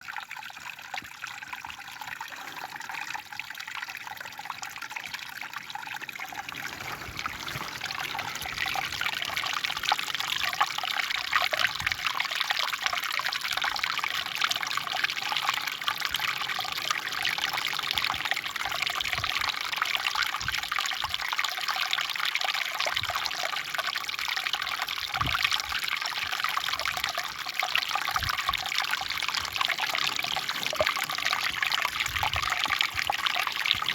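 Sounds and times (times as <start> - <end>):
water trickling: 0.0 - 33.9.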